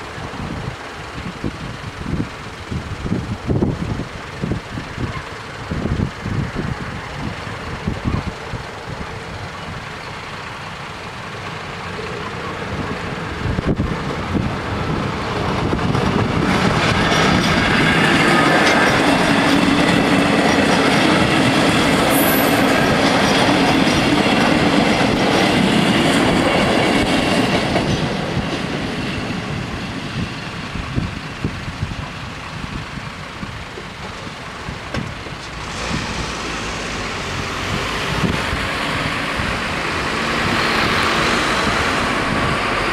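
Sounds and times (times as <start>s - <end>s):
road vehicles moving off: 0.0s - 42.9s
train wheels rumbling on rails: 0.0s - 42.9s.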